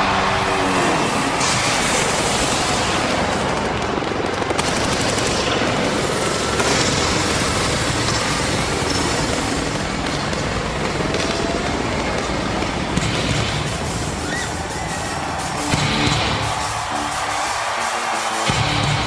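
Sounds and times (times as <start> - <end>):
arena crowd cheering and screaming: 0.0 - 19.0.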